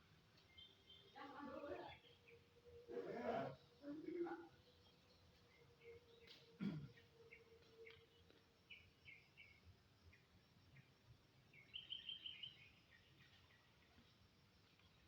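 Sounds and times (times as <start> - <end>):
faint bird chirps: 0.4 - 10.9, 11.5 - 14.1.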